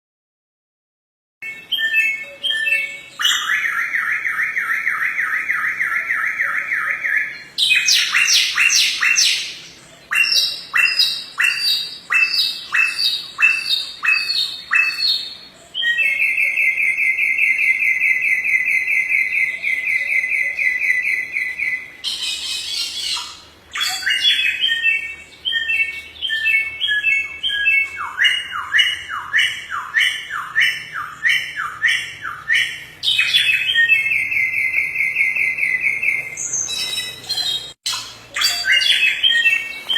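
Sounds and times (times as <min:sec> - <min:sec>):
songbird singing trills: 0:01.4 - 0:39.9.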